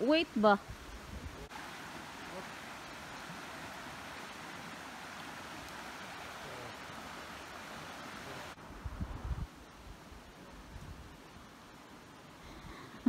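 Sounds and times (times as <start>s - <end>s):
river water running over rocks: 0.0s - 8.6s, 9.6s - 13.0s.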